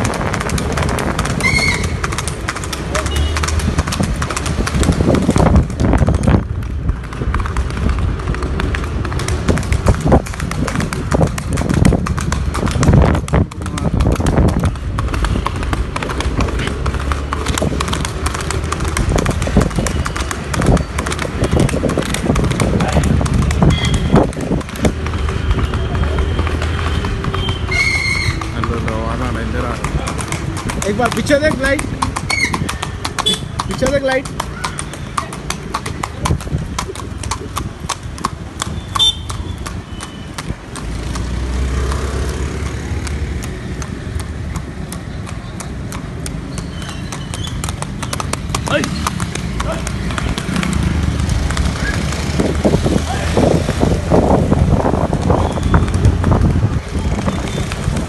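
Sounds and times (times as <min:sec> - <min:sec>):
horse hooves clip-clopping: 0:00.0 - 0:58.0.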